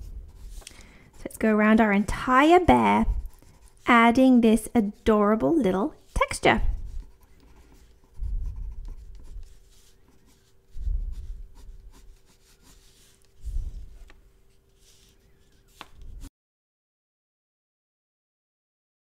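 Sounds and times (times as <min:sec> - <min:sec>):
pencil scratching on paper: 0:00.0 - 0:16.2.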